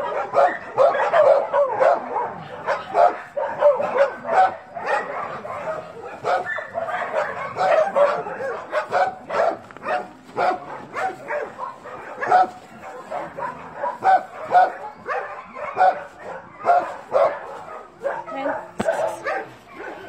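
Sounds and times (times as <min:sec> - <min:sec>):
dogs barking and yipping: 0:00.0 - 0:20.0.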